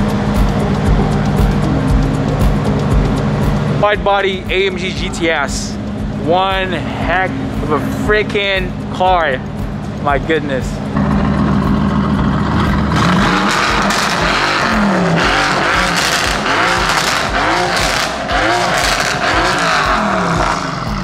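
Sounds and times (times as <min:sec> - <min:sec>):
car engine revving: 0:00.0 - 0:21.0
exhaust crackles: 0:00.0 - 0:21.0.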